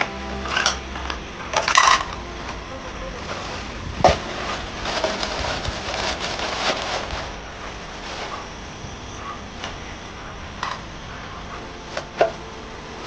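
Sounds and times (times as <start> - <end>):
gas camp stove hissing: 0.0 - 13.0.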